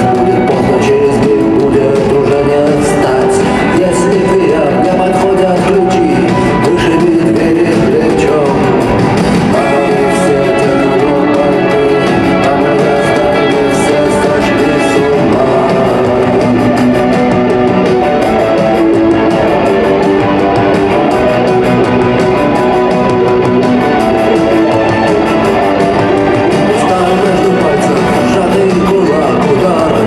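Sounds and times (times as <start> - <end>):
rock band playing live: 0.0 - 30.0.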